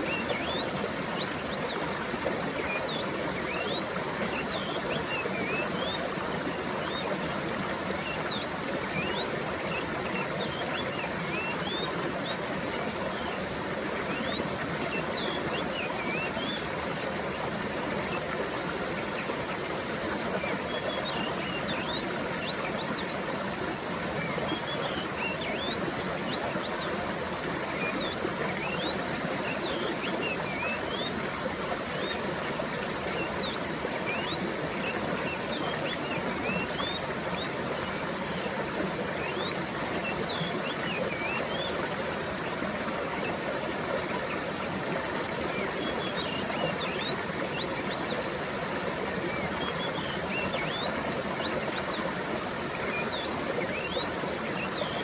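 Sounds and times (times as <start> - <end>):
birds chirping: 0.0 - 19.3, 20.0 - 55.0
stream water babbling: 0.0 - 55.0.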